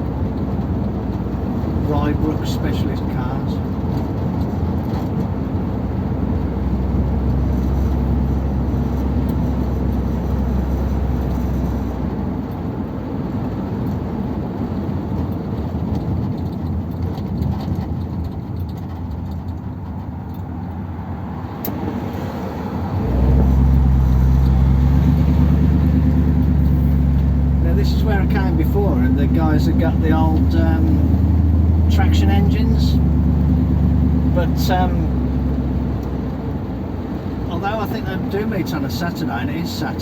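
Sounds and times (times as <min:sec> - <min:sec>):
car engine: 0:00.0 - 0:40.0
road noise: 0:00.0 - 0:40.0.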